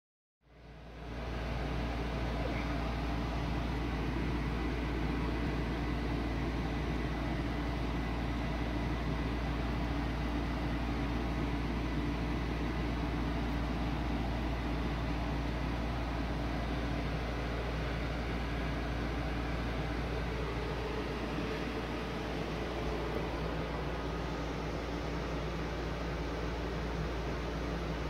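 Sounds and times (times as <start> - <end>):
machine hum with hiss: 0.6 - 28.0.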